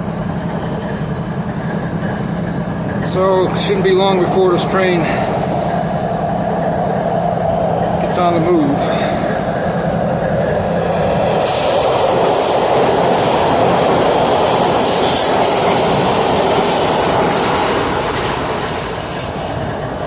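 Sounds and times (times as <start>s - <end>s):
high wheel squeal: 0.0s - 19.6s
train rumbling on rails: 0.0s - 20.0s.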